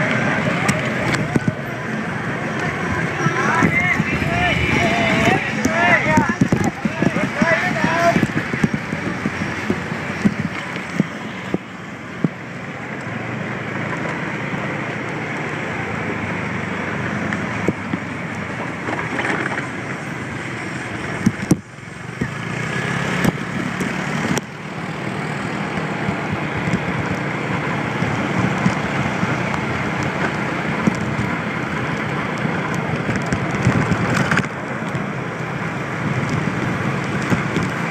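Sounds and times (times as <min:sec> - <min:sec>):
wind rushing over microphone: 0:00.0 - 0:12.9, 0:13.7 - 0:37.9.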